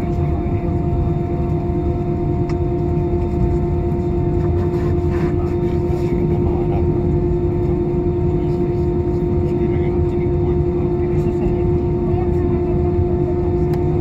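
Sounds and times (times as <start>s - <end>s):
constant droning tone: 0.0s - 14.0s
jet engines rumbling in cabin: 0.0s - 14.0s.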